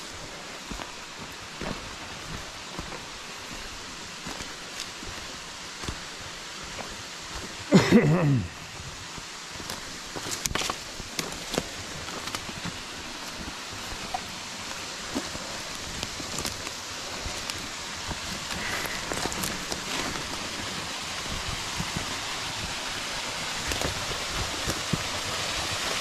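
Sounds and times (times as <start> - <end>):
footsteps crunching on dry leaves: 0.0 - 8.0, 8.6 - 26.0
waterfall rushing: 0.0 - 26.0.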